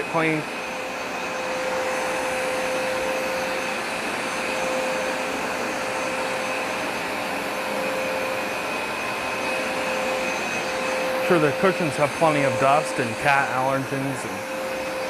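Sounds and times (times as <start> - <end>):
carpet cleaner running: 0.0 - 15.0.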